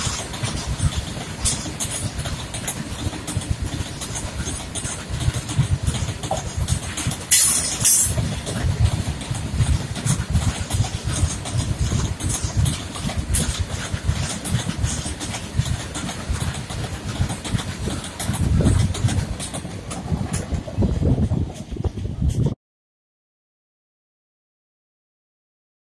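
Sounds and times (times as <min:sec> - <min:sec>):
train wheels rumbling: 0:00.0 - 0:22.6
wheels clattering over rail joints: 0:00.0 - 0:22.6.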